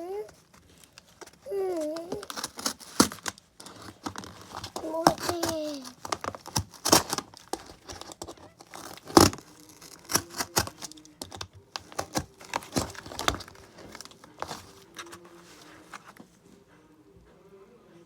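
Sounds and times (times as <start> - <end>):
cardboard crinkling by hand: 0.0 - 16.4.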